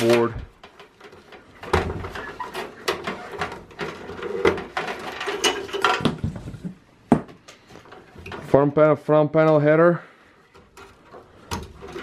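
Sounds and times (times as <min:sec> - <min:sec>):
wiring rustling: 0:00.0 - 0:12.0.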